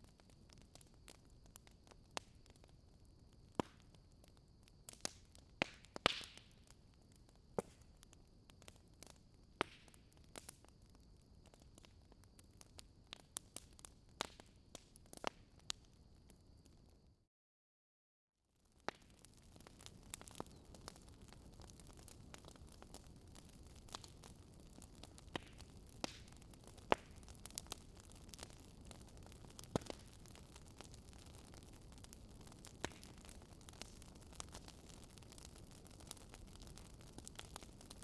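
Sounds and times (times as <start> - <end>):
wood fire crackling: 0.0 - 16.8, 18.6 - 38.0.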